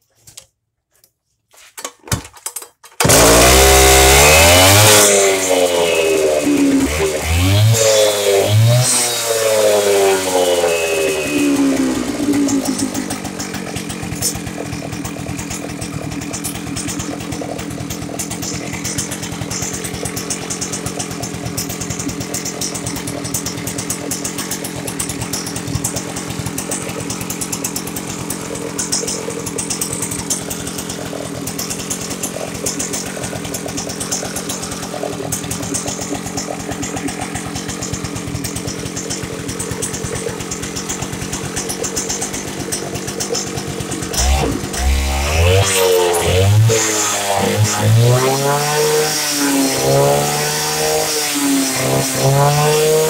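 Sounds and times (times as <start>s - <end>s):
cut-off saw engine running: 3.0s - 53.0s.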